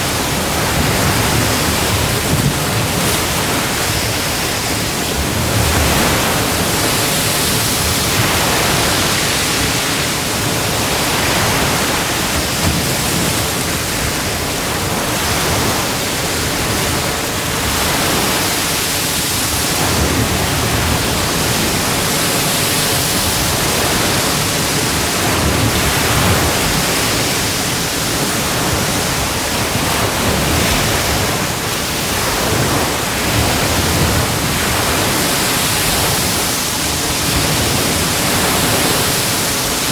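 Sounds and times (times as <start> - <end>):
breaking waves on a beach: 0.0 - 39.9.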